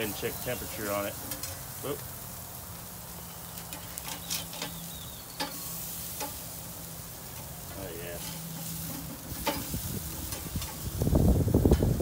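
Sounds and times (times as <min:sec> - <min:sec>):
steaks sizzling on grill: 0:00.0 - 0:12.0.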